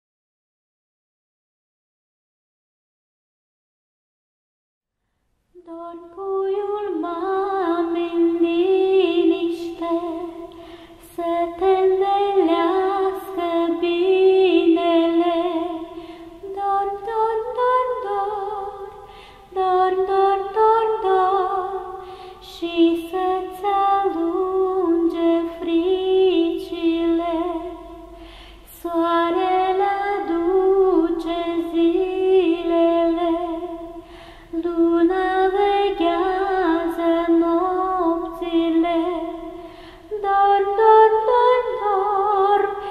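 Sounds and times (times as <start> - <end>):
woman singing a lullaby: 5.6 - 42.9.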